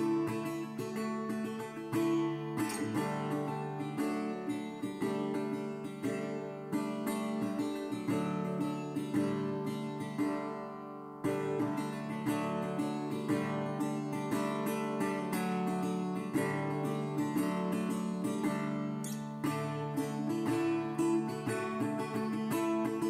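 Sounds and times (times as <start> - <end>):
acoustic guitar plucked and strummed: 0.0 - 23.0.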